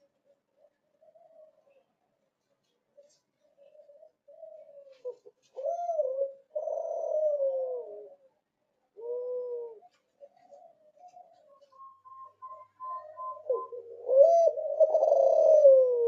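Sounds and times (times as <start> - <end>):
dove cooing: 0.0 - 2.0, 2.6 - 16.0.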